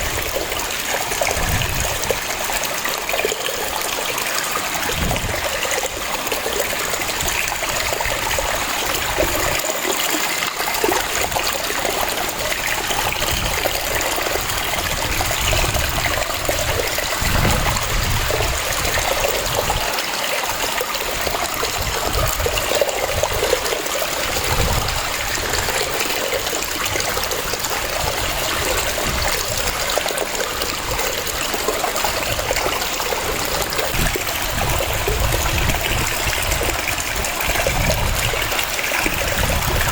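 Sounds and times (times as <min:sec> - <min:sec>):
waterfall water cascading: 0:00.0 - 0:39.9.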